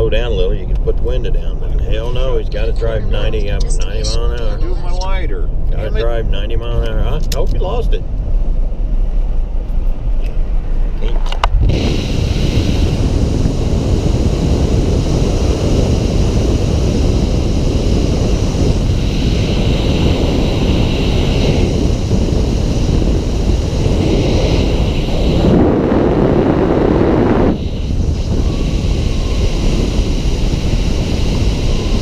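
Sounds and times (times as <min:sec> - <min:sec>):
road and wind noise in vehicle: 0:00.0 - 0:32.0.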